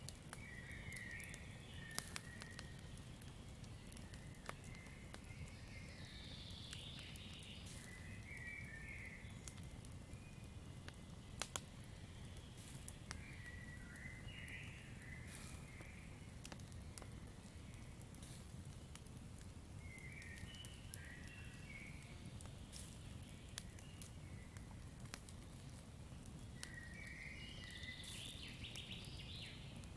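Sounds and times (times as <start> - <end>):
campfire crackling and popping: 0.0 - 29.9.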